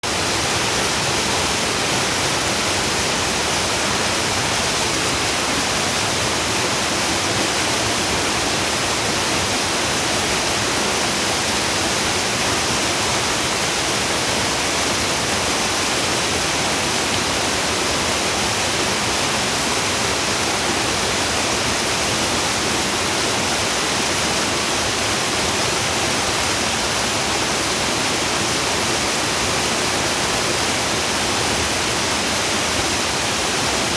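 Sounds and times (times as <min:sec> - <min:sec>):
stream water cascading: 0:00.0 - 0:33.9.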